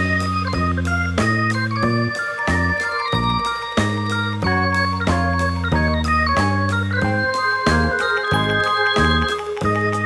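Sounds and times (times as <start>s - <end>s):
keyboard chords over bass line: 0.0s - 10.0s.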